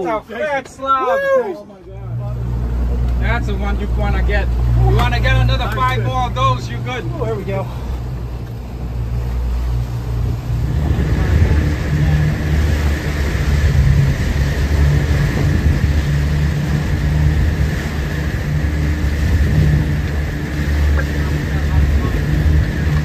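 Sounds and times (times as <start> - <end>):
boat engine running: 1.8 - 23.0.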